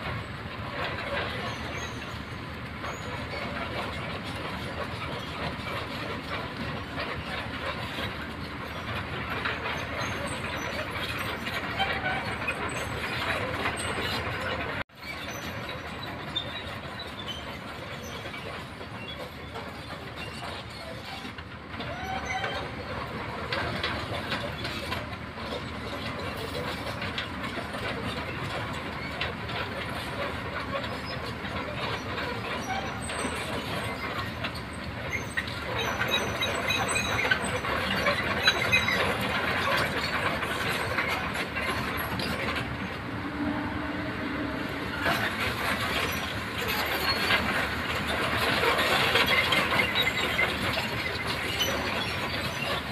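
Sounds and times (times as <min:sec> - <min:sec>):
excavator engine running: 0:00.0 - 0:52.9
steel tracks clanking and rattling: 0:00.0 - 0:52.9.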